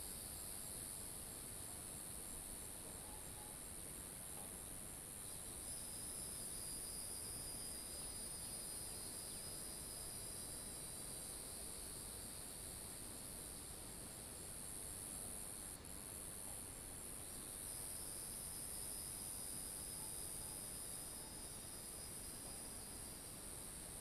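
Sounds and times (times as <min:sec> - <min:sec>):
high-pitched insect chorus: 0:00.0 - 0:24.0
lower insect call: 0:00.0 - 0:24.0.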